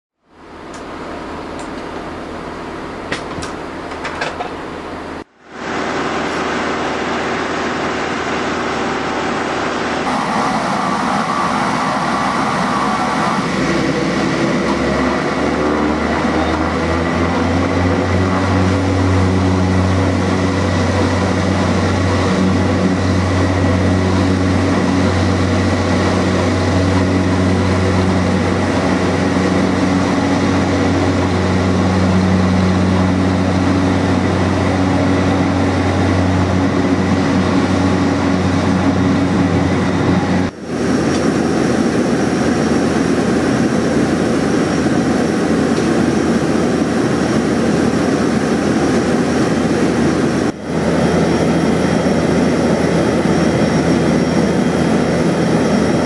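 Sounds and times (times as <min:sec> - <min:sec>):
low propeller hum: 0:00.2 - 0:56.0
turboprop engine drone: 0:00.2 - 0:56.0.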